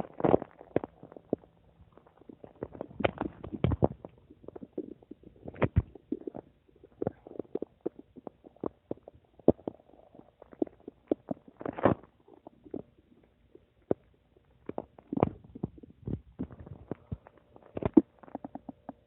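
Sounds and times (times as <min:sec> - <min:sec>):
stomach gurgling and rumbling: 0:00.0 - 0:19.0.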